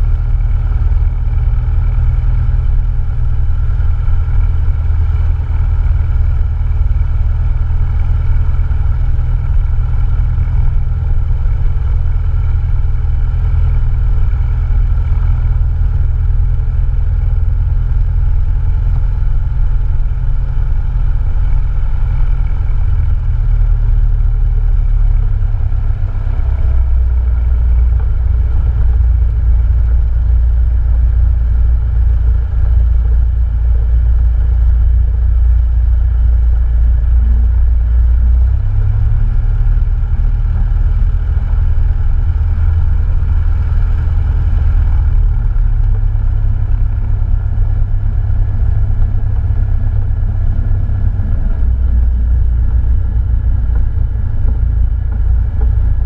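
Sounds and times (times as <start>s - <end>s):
airplane engine and propeller drone: 0.0s - 56.0s.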